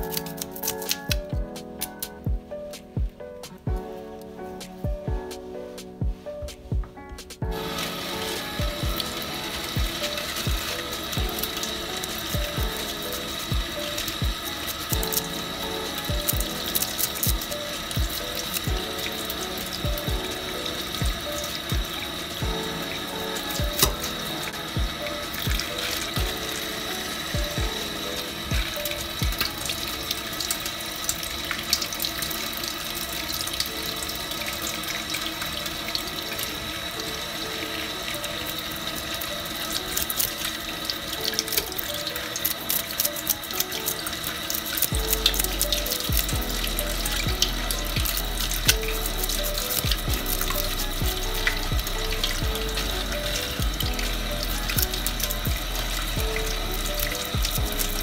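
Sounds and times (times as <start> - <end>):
tap water running: 0.0 - 5.4, 6.2 - 58.0.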